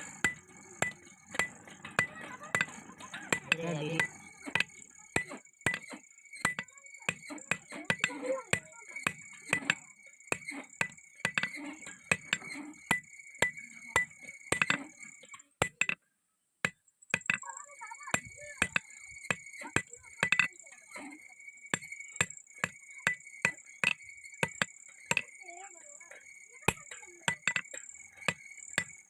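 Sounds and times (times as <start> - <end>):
hammer striking steel on anvil: 0.0 - 14.9, 15.6 - 16.0, 16.6 - 17.4, 18.1 - 20.5, 21.8 - 25.3, 26.7 - 29.0.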